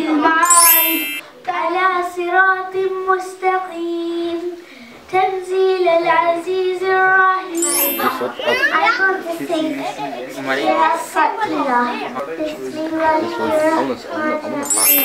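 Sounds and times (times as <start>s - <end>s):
child chanting: 0.0s - 0.5s, 1.3s - 14.7s.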